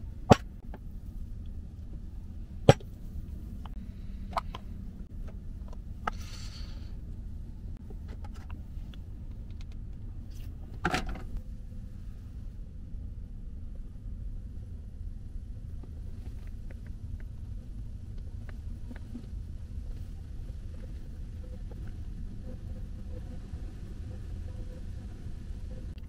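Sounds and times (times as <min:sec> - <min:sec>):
low rumble inside car: 0:00.0 - 0:26.0.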